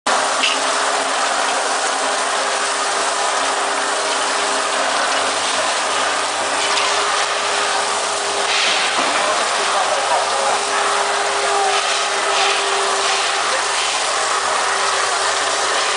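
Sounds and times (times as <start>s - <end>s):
water jets spraying: 0.1s - 15.9s.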